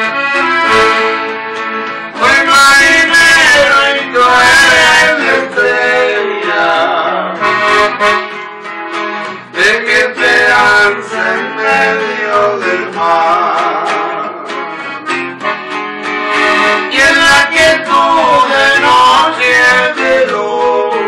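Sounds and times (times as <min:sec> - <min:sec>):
accordion melody: 0:00.0 - 0:21.0
electric guitar strumming: 0:00.0 - 0:21.0.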